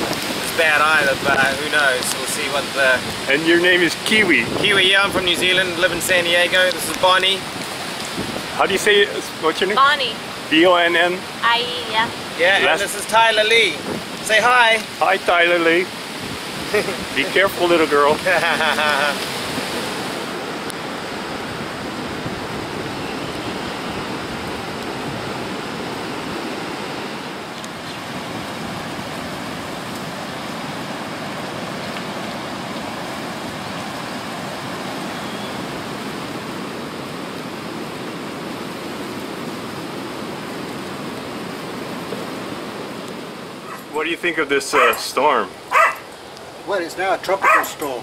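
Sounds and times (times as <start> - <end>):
seawater rushing over shore: 0.0 - 48.0.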